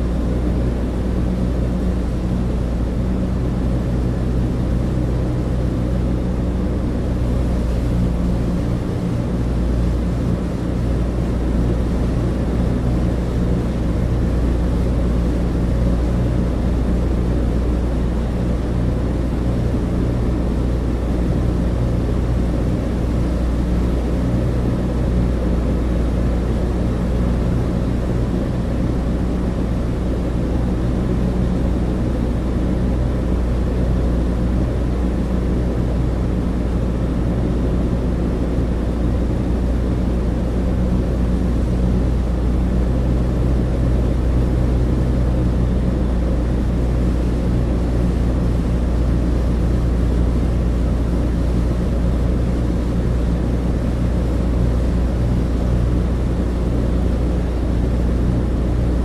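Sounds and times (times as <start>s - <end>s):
propeller engines droning: 0.0s - 59.0s.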